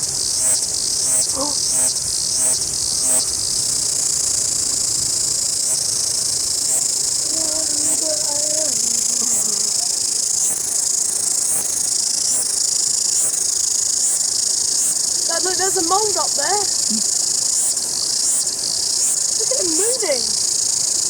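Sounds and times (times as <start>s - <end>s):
cicadas singing: 0.0s - 21.0s.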